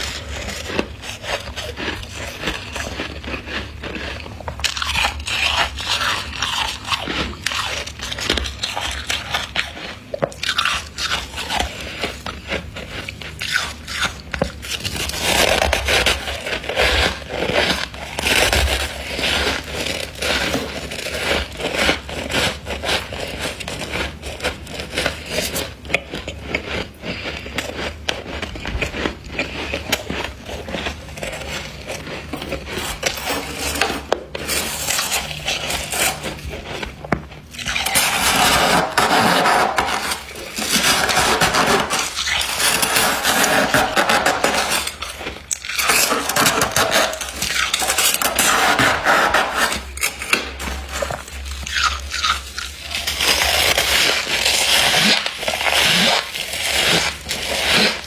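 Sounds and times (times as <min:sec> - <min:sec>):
frost crunching under hand: 0:00.0 - 0:58.0.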